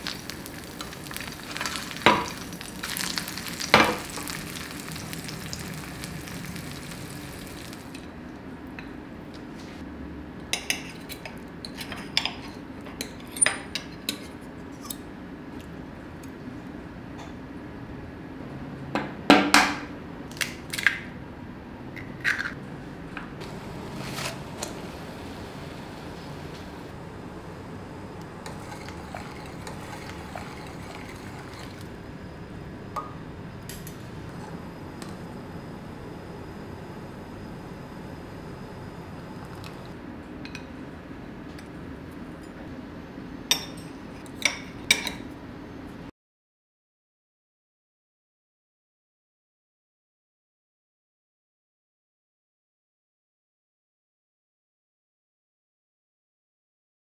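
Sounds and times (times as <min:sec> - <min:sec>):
low background hum: 0:00.0 - 0:46.1.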